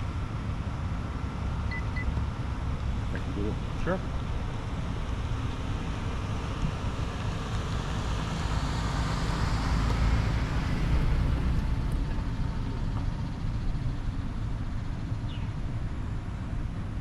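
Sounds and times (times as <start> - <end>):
road traffic passing: 0.0 - 16.9.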